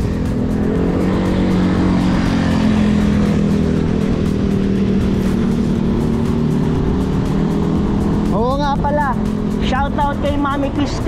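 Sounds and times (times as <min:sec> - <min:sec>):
low drone: 0:00.0 - 0:11.0.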